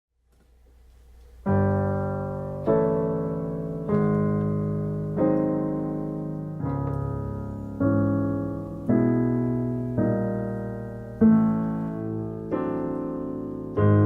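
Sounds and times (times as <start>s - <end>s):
digital piano chords: 0.8s - 14.0s.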